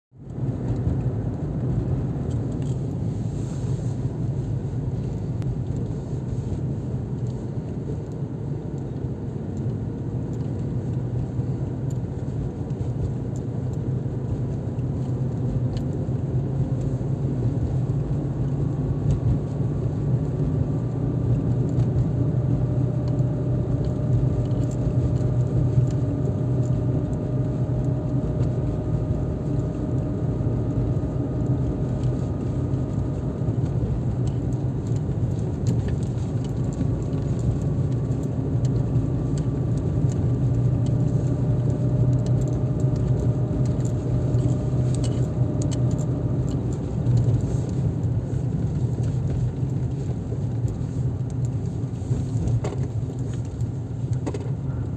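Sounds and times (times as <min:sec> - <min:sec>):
car engine and road rumble: 0:00.1 - 0:54.9
light ticks and rattles: 0:00.2 - 0:54.9.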